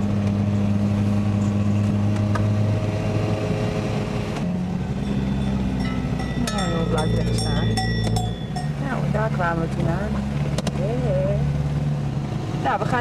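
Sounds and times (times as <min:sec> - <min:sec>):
van engine running: 0:00.0 - 0:13.0.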